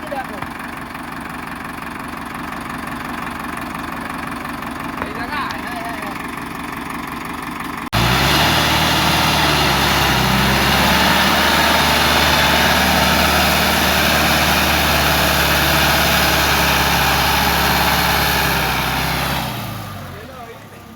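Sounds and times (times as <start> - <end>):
tractor engine droning: 0.0 - 20.9.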